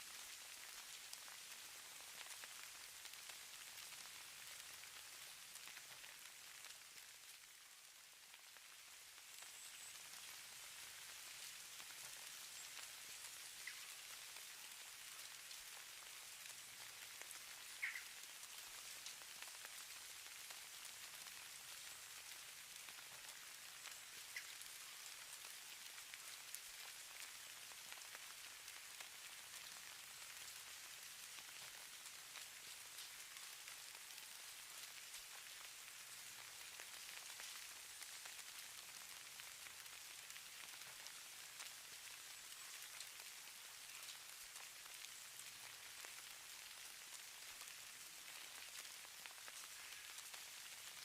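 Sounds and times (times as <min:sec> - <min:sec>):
hiss of falling snow: 0:00.0 - 0:51.0
tiny ticks of precipitation: 0:00.0 - 0:51.0.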